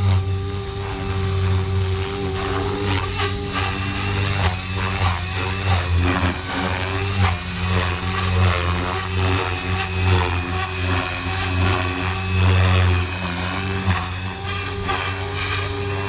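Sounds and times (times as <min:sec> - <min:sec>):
rc helicopter rotor humming: 0:00.0 - 0:16.0.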